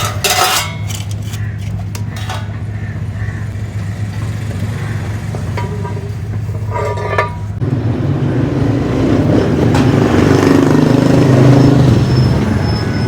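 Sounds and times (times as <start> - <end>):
vehicle engine running: 1.1 - 12.2.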